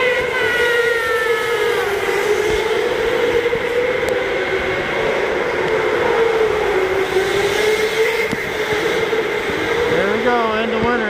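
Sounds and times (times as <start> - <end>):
electric go-kart motor whine: 0.0 - 11.0.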